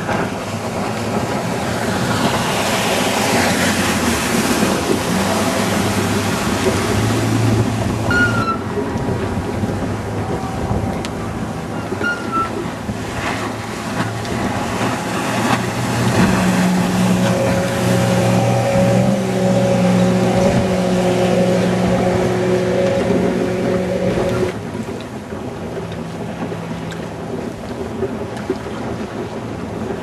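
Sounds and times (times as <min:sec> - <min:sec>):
motorboat engine at high revs: 0:00.0 - 0:30.0
rushing water: 0:00.0 - 0:30.0
wind noise: 0:00.0 - 0:30.0.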